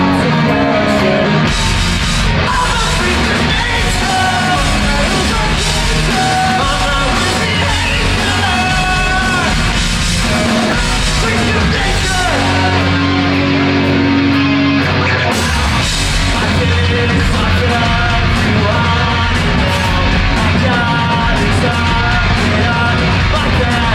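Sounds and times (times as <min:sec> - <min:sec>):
lead vocal singing and shouting: 0:00.0 - 0:23.9
rock band playing live: 0:00.0 - 0:23.9.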